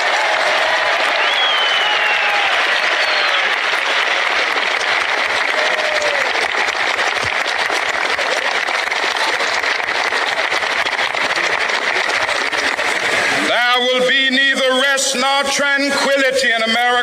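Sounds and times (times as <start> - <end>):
large crowd applauding: 0.0 - 17.0.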